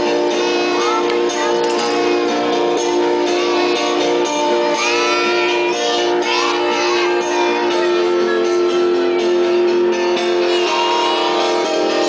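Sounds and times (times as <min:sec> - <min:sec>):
gliding higher notes: 0:00.0 - 0:12.0
guitar strings plucked and strummed: 0:00.0 - 0:12.0.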